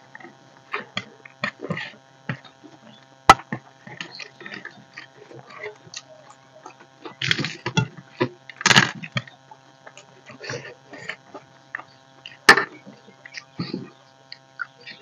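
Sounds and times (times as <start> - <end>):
food mixed by hand on steel plates: 0.0 - 15.0
chewing: 0.1 - 15.0.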